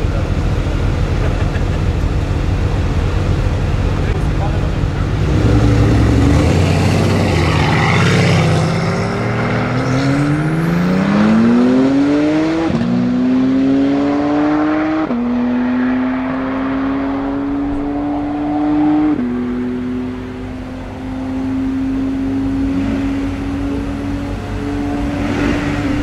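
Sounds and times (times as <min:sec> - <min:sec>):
car engines accelerating with upshifts: 0:00.0 - 0:26.0.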